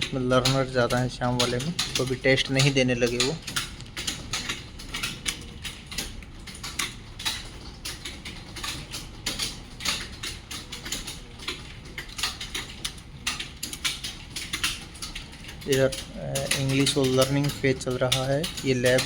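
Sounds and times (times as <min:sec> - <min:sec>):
keyboards typing: 0:00.0 - 0:19.0.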